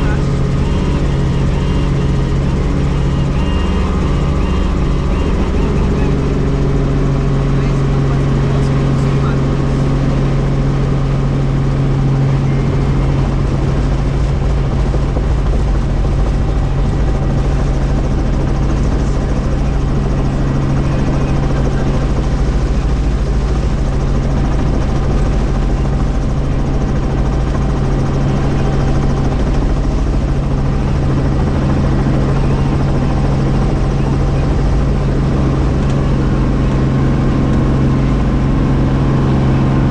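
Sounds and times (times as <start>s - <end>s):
helicopter engine and rotor hum: 0.0s - 39.9s.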